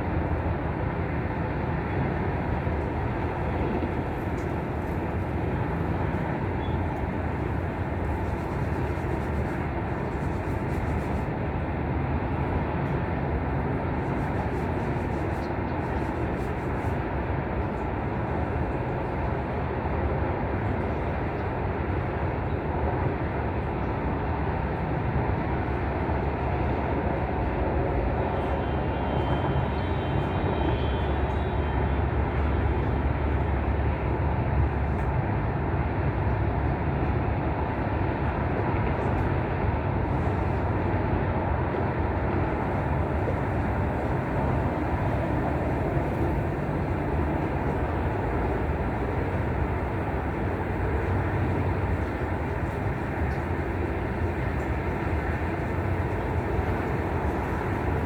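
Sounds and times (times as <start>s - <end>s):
wind blowing across microphone: 0.0s - 58.0s.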